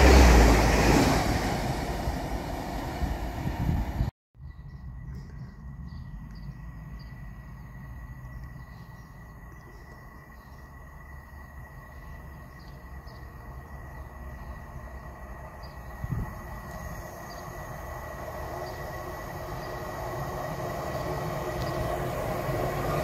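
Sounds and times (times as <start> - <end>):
faint chirps: 4.4 - 23.0.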